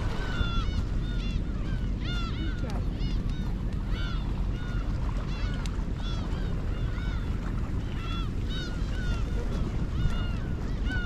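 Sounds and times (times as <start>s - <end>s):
steady low rumble: 0.0s - 11.0s
birds calling: 0.1s - 11.0s.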